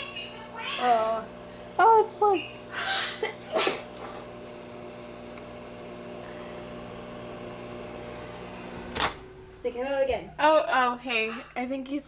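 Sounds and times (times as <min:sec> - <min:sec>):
microwave oven humming: 0:00.0 - 0:10.9.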